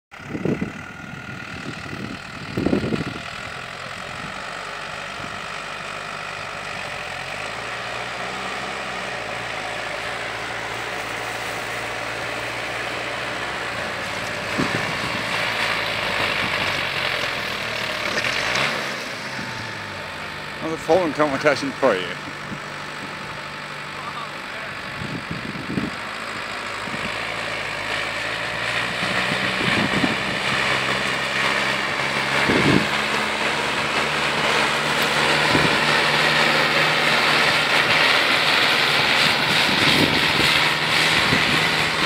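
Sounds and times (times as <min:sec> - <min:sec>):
diesel tractor engine under load: 0:00.1 - 0:42.0.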